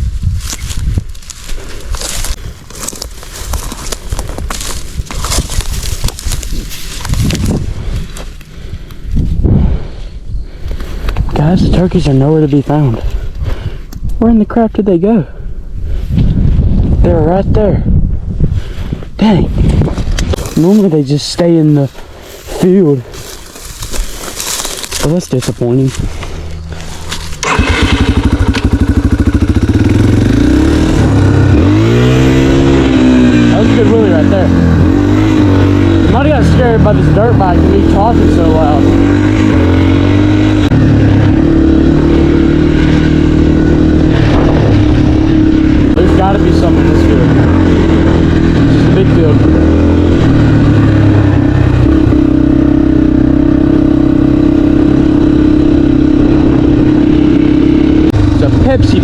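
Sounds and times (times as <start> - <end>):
dirt bike engine accelerating: 0.0 - 8.8, 19.6 - 59.0.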